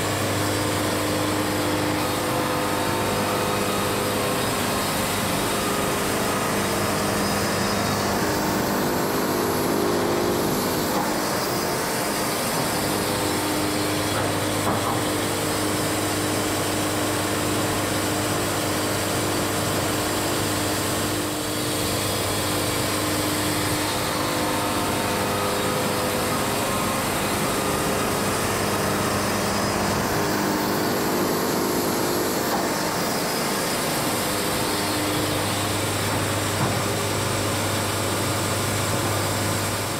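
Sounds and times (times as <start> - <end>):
band sawmill sawing log: 0.0 - 39.9.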